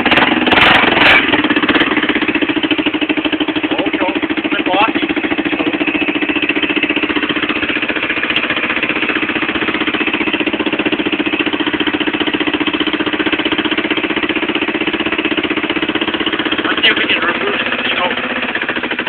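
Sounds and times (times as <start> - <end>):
engine idling with exhaust beat: 0.0 - 19.0.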